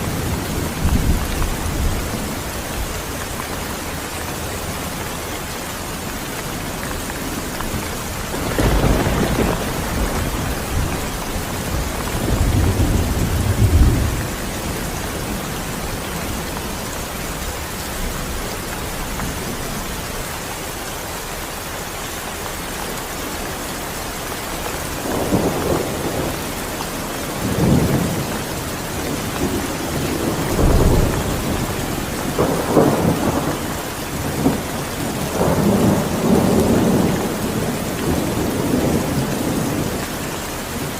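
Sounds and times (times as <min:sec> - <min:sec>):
thunder rumbling: 0:00.0 - 0:05.2, 0:06.4 - 0:20.0, 0:24.8 - 0:40.2
steady rain falling: 0:00.0 - 0:40.9.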